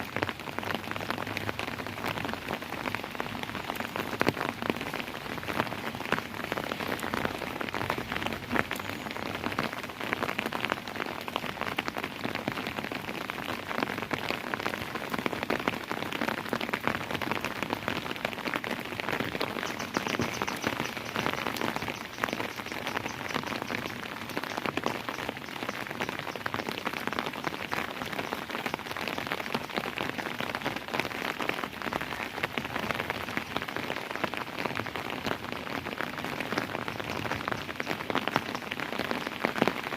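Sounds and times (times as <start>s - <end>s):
raindrops tapping close by: 0.0s - 39.9s
steady rain hiss: 0.0s - 39.9s.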